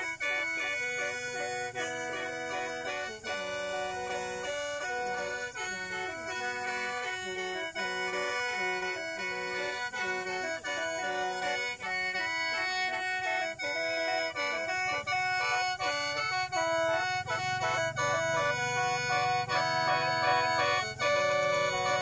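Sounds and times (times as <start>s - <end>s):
mouth organ melody with drone: 0.0s - 22.0s.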